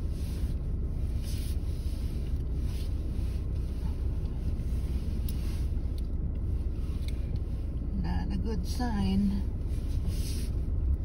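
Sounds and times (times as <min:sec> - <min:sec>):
car rolling slowly: 0:00.0 - 0:11.0.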